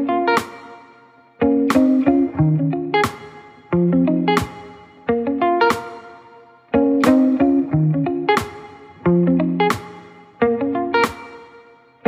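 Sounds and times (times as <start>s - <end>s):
plucked notes music: 0.0s - 11.6s.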